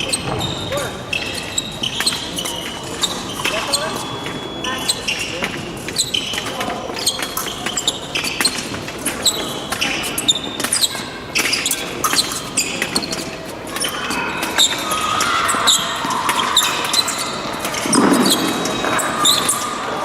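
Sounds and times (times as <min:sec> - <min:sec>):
shoes stamping and squeaking: 0:00.0 - 0:14.8, 0:15.5 - 0:20.0.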